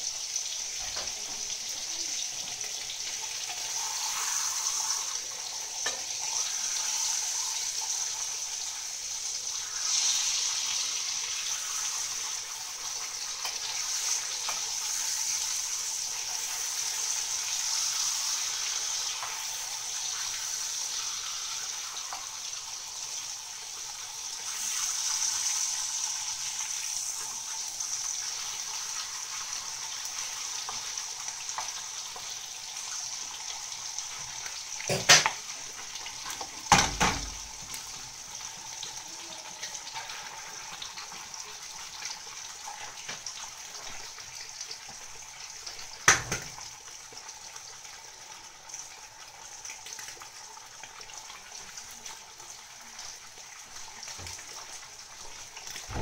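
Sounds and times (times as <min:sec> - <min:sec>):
salami sizzling in a frying pan: 0:00.0 - 0:56.0.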